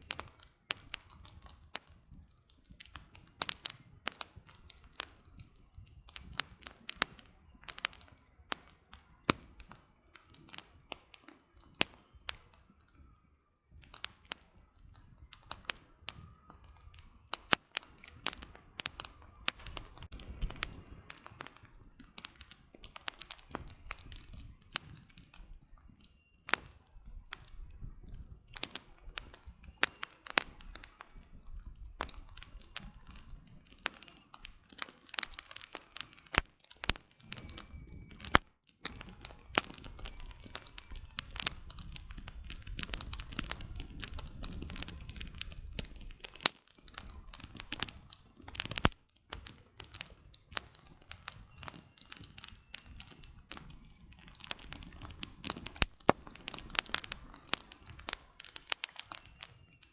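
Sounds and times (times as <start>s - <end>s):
campfire crackling and popping: 0.0s - 59.9s
low rush of flames: 0.0s - 59.9s.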